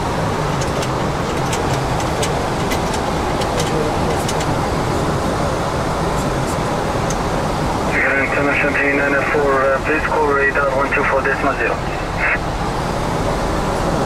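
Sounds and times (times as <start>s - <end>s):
aircraft cockpit rushing noise: 0.0s - 14.0s.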